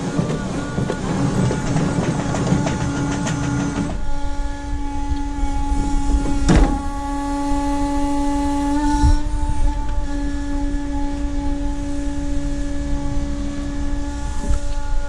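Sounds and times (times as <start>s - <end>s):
electric excavator drive whine: 0.0s - 15.0s.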